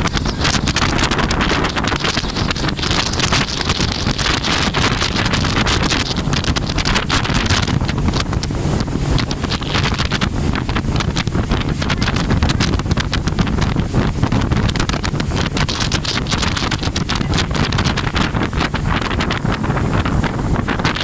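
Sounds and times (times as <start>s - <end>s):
boat engine rumble: 0.0s - 21.0s
wind buffeting microphone: 0.0s - 21.0s.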